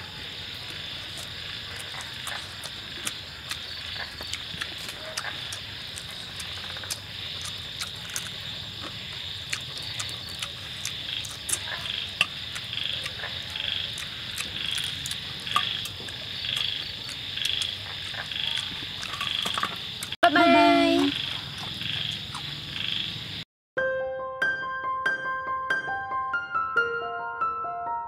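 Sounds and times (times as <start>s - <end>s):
frogs and insects trilling: 0.0s - 23.4s.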